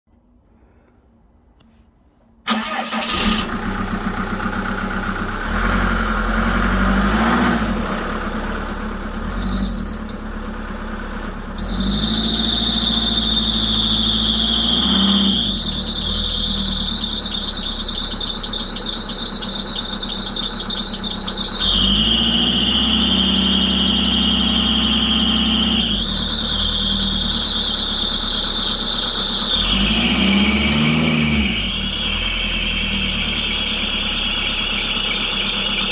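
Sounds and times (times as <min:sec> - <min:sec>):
high-pitched squeal: 0:02.5 - 0:04.4, 0:05.2 - 0:35.9
engine idling: 0:02.5 - 0:35.9.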